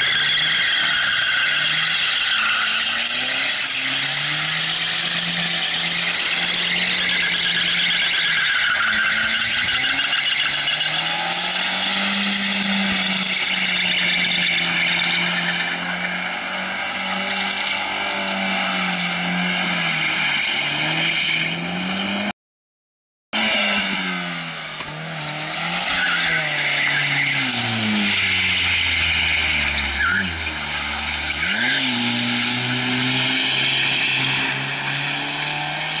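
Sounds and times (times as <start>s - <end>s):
tyres screeching: 0.0s - 22.3s, 24.8s - 36.0s
car engine revving high: 0.0s - 22.4s, 23.4s - 36.0s.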